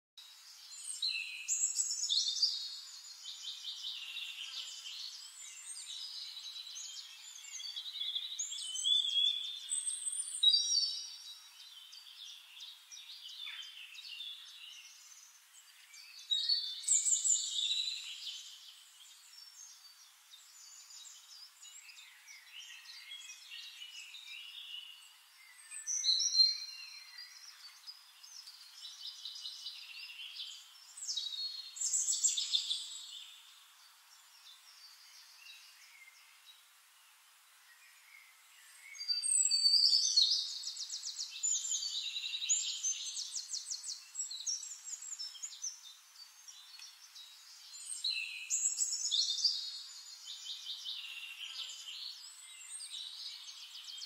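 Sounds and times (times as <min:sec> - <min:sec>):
songbirds chirping and trilling: 0:00.2 - 0:54.0.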